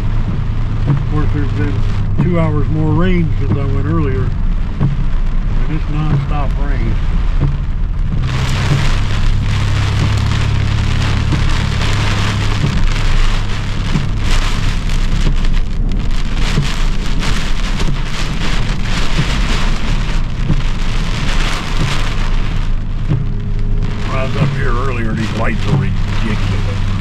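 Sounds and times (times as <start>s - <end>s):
heavy rain drumming on a car: 0.0s - 27.0s
low rumble of car: 0.0s - 27.0s.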